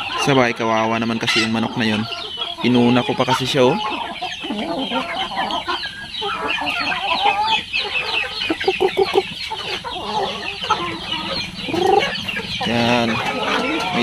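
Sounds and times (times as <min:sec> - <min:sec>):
young chickens clucking and peeping: 0:00.0 - 0:14.0.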